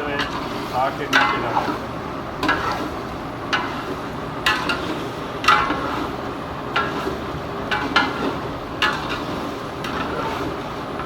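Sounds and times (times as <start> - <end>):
spoon clanging against a pan: 0.0 - 1.8, 2.4 - 2.9, 3.5 - 11.0
frying hiss: 0.0 - 11.0.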